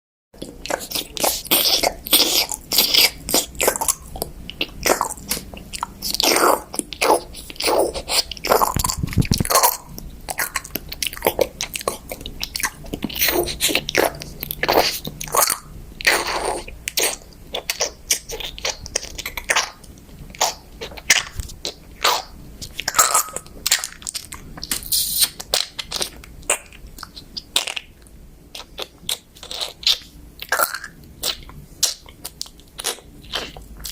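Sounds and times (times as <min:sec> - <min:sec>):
kitten crunching food: 0:00.4 - 0:33.9.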